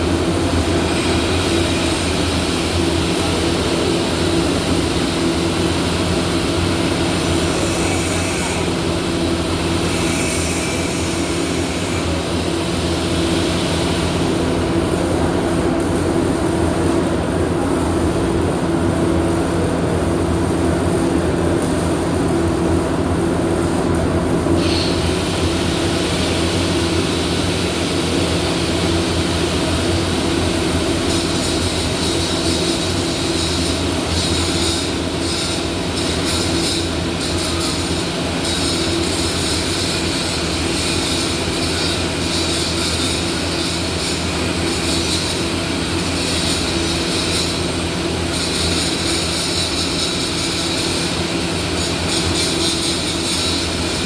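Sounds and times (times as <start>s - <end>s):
crackling hiss of welding arc: 0.0s - 54.0s
welding equipment hum: 0.0s - 54.0s.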